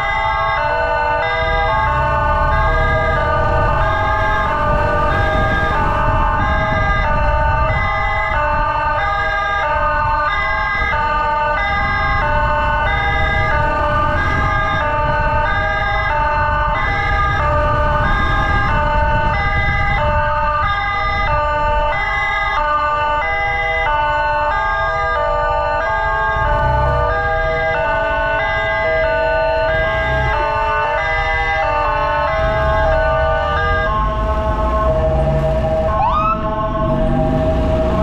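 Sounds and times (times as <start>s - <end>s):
engine and road rumble: 0.0s - 38.0s
two-tone emergency siren: 0.0s - 38.0s.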